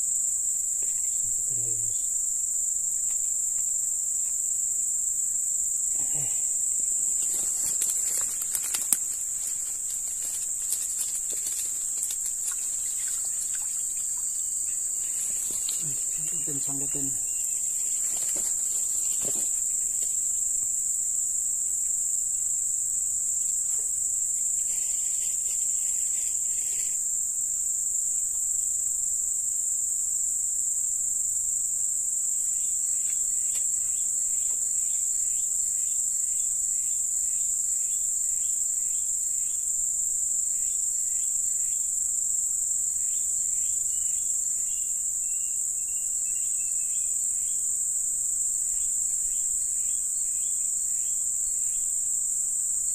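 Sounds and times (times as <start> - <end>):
high-pitched insect chorus: 0.0 - 52.9
quick insect chirps: 0.0 - 52.9.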